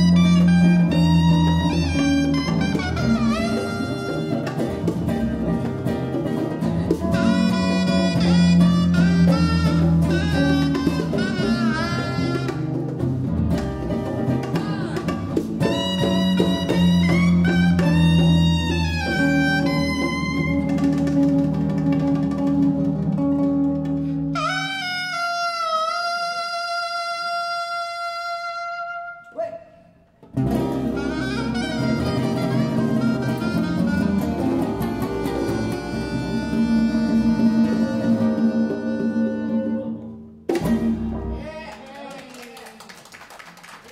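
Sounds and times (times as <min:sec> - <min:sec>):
bass: 0:00.0 - 0:29.2, 0:30.2 - 0:42.1
band playing: 0:00.0 - 0:29.3, 0:30.2 - 0:41.8
acoustic guitar: 0:00.0 - 0:29.4, 0:30.2 - 0:41.5
saxophone melody: 0:00.0 - 0:29.4, 0:30.3 - 0:41.4
congas: 0:00.0 - 0:43.9.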